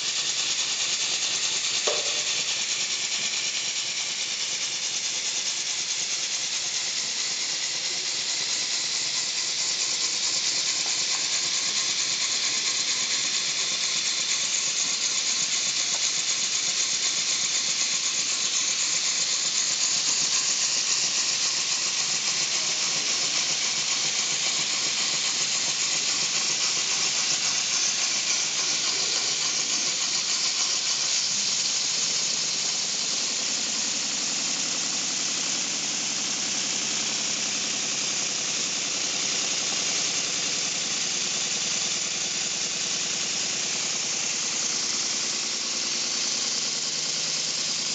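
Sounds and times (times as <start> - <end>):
model steam engine hissing: 0.0 - 47.9.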